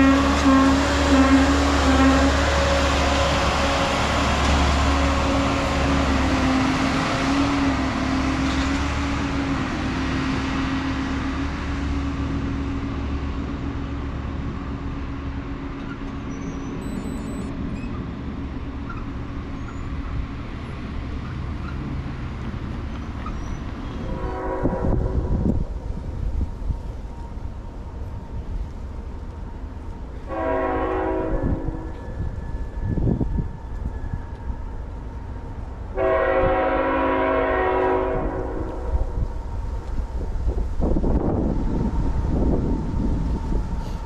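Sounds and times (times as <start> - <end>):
diesel engine droning: 0.0 - 44.0
wheel-on-rail rumble: 0.0 - 44.0.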